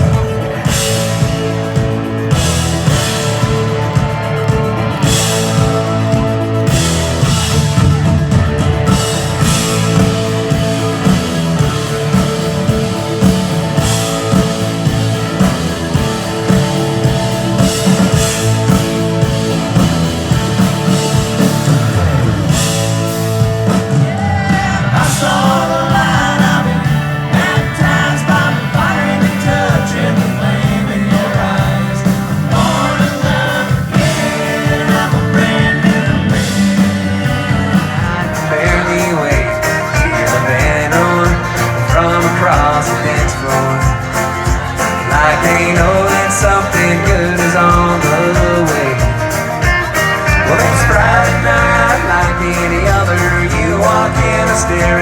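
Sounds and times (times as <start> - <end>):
bending lead melody: 0.0 - 55.0
loud rock music: 0.0 - 55.0.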